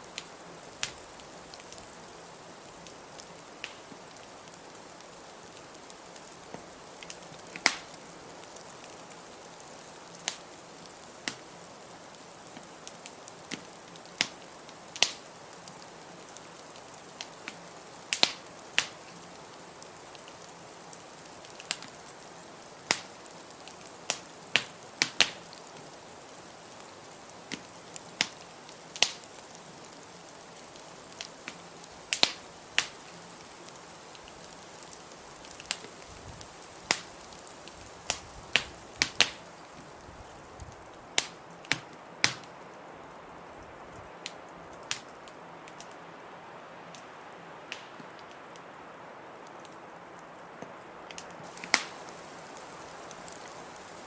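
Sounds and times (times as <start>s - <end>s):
wood fire crackling and popping: 0.0s - 46.1s, 46.8s - 48.8s, 49.4s - 54.0s
blizzard wind hiss: 0.0s - 54.0s.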